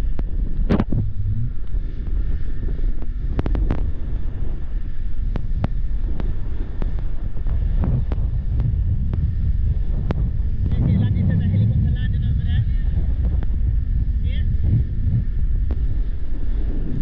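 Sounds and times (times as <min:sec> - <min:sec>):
jet ski engine rumble: 0:00.0 - 0:17.0
wind buffeting microphone: 0:00.0 - 0:17.0.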